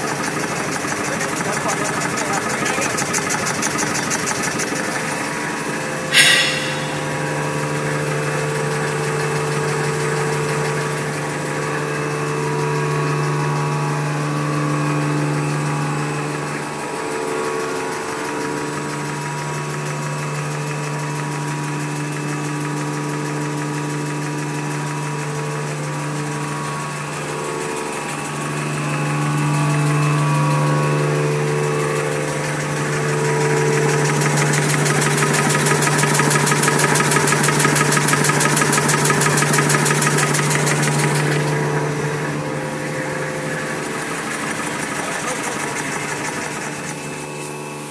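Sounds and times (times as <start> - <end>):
fast even machine clatter: 0.0 - 11.9, 17.4 - 47.9
machine mechanical hum: 0.0 - 47.9.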